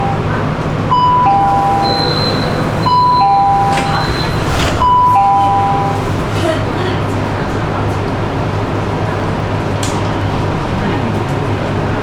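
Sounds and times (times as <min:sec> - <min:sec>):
train hum: 0:00.0 - 0:12.0.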